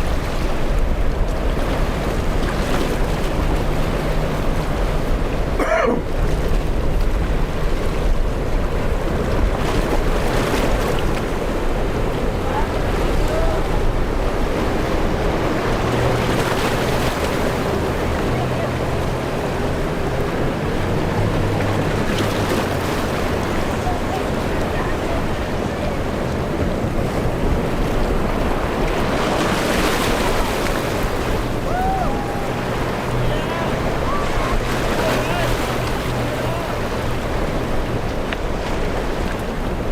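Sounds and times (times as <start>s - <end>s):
rough ocean surf: 0.0s - 39.9s
wind buffeting microphone: 0.0s - 39.9s.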